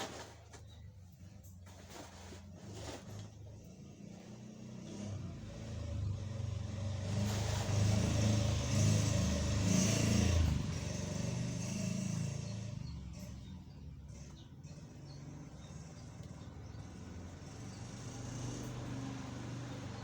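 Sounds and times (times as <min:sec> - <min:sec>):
vehicle engine passing by: 0:02.6 - 0:20.0.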